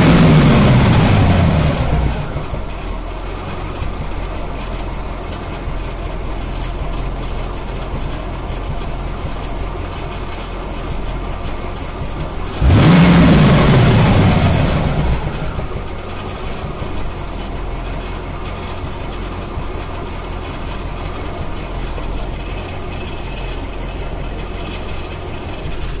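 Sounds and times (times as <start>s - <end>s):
car engine idling and revving: 0.0s - 26.0s
engine ticking and rattling: 0.0s - 26.0s.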